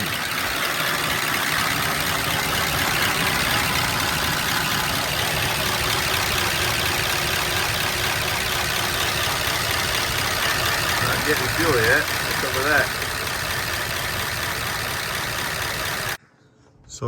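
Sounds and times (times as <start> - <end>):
pickup truck engine idling: 0.0 - 16.2.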